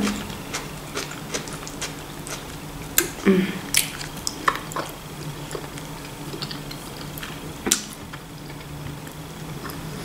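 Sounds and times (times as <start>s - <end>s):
person chewing food: 0.0s - 8.7s
faint low hum: 0.0s - 10.0s.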